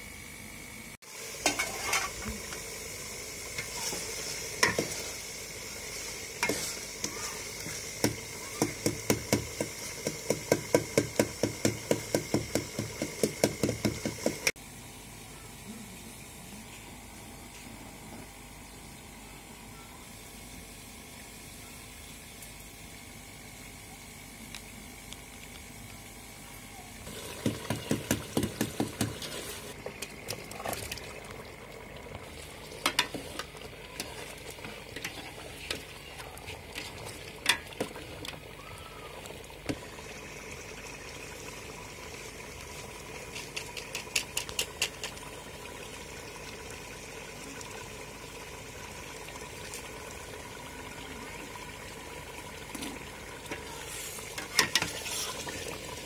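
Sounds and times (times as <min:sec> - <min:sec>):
pot sizzling: 0:00.6 - 0:14.6, 0:20.2 - 0:56.0.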